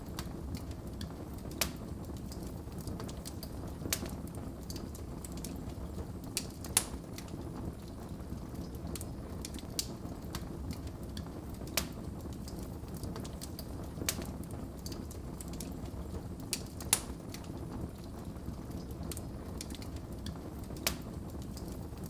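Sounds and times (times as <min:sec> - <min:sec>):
crackles and pops of fire: 0:00.0 - 0:22.0
fire burning in fireplace: 0:00.0 - 0:22.0.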